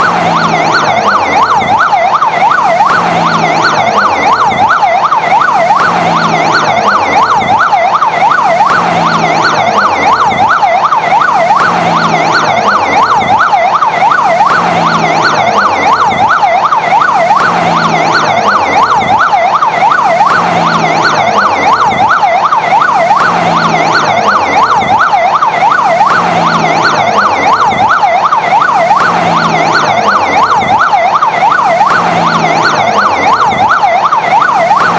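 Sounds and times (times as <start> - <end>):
fire engine siren wailing: 0.0 - 34.9.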